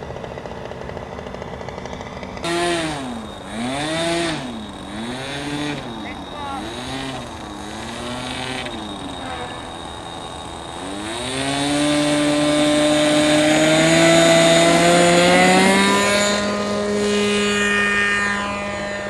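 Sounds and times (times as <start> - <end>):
model airplane motor whining: 0.0 - 19.0.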